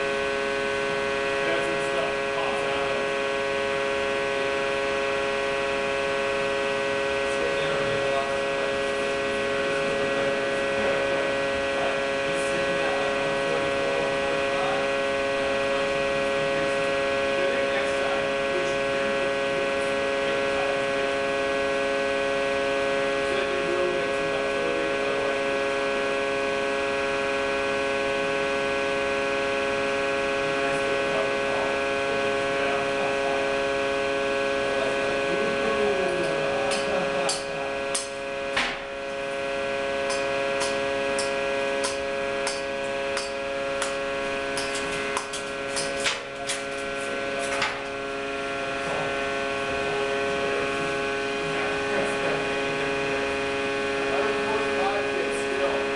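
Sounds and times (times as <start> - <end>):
testing machine humming: 0.0 - 55.9.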